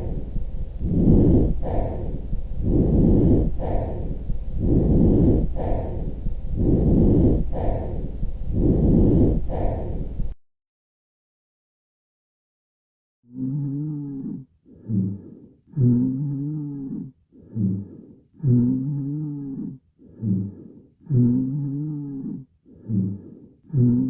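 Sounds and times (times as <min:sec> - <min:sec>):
breath sounds through stethoscope: 0:00.0 - 0:10.4, 0:13.4 - 0:24.0.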